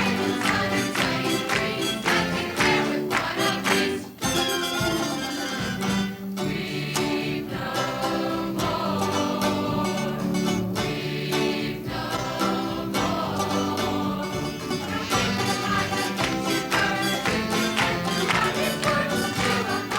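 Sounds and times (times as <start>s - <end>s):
instrumental accompaniment with beat: 0.0s - 19.9s
vocal group singing in harmony: 0.0s - 19.9s.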